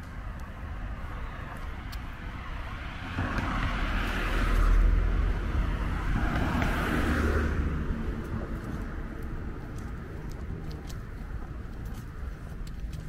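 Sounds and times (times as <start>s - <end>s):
cars passing: 0.0s - 13.0s
traffic hum: 0.0s - 13.0s.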